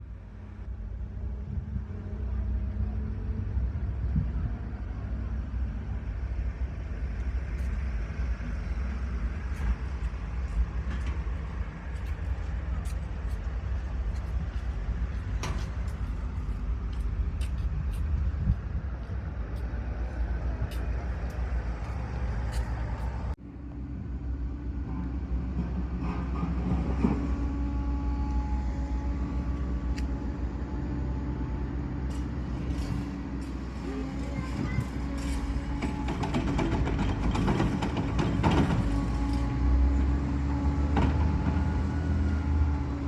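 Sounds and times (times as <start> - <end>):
heavy machine engine rumbling: 0.0 - 43.0.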